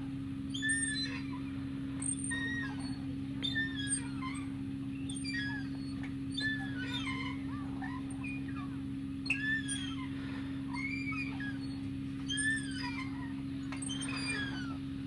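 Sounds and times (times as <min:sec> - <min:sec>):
metal swing squeaking: 0:00.0 - 0:15.0
steady low hum: 0:00.0 - 0:15.0.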